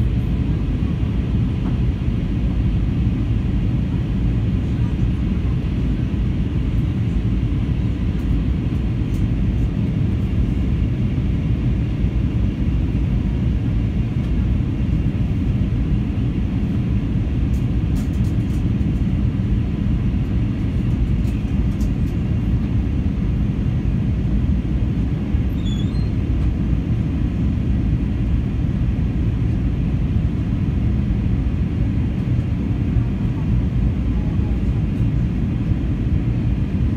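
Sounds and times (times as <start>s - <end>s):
airplane cabin rumble: 0.0s - 36.9s.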